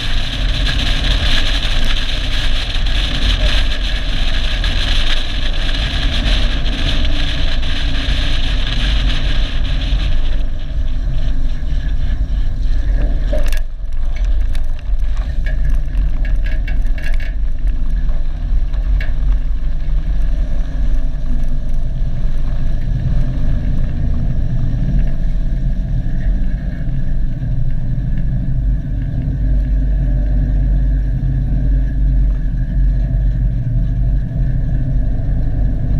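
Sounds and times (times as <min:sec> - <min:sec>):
tyres crackling over gravel: 0:00.0 - 0:35.9
wind and road noise: 0:00.0 - 0:35.9.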